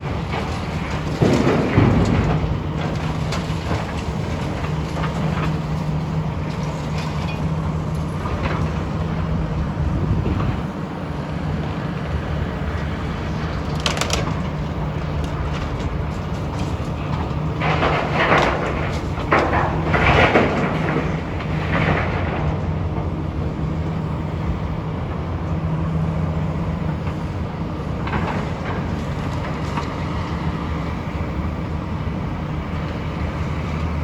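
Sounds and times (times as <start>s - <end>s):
falling debris crashing: 0.0s - 10.7s, 12.8s - 25.2s, 25.8s - 31.9s
demolition machinery engine: 0.0s - 34.0s.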